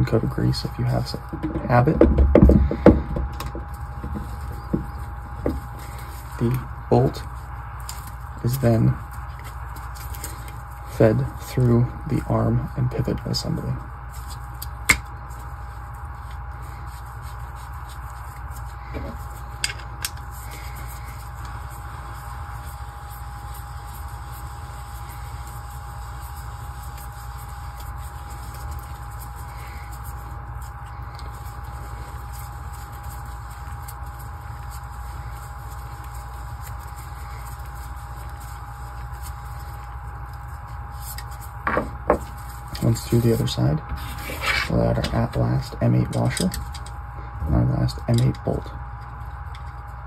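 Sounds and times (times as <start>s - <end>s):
background hum and hiss: 0.0s - 50.0s.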